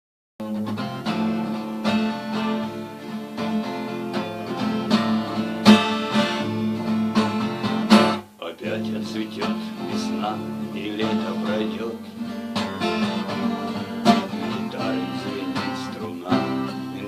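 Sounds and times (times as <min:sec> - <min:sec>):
acoustic guitar strumming: 0:00.4 - 0:17.0.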